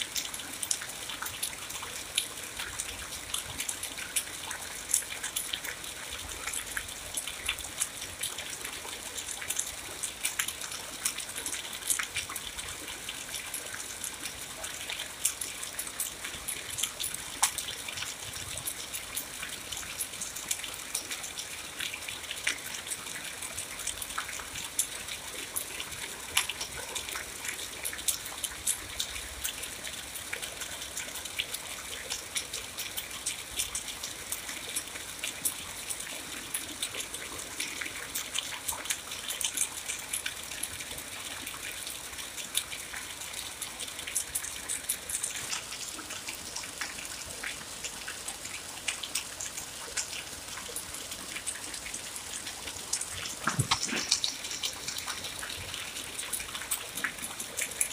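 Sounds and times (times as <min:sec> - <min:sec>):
steady rain with drop impacts: 0:00.0 - 0:57.9.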